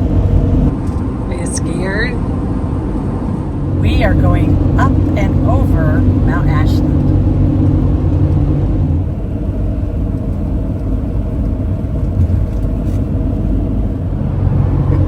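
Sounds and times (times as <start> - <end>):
engine and tyres rumbling: 0.0 - 15.0
faint constant hum: 0.0 - 15.0.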